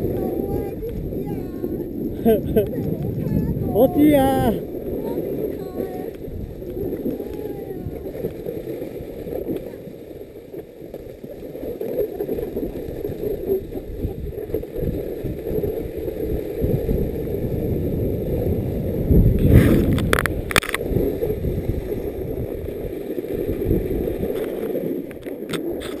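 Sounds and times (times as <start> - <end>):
snowboard scraping over hard snow: 0.0 - 26.0
wind buffeting microphone: 0.0 - 26.0.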